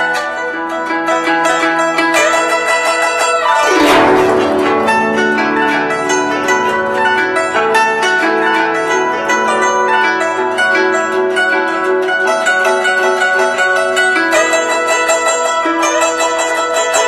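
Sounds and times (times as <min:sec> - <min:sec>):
plucked zither notes: 0:00.0 - 0:17.0.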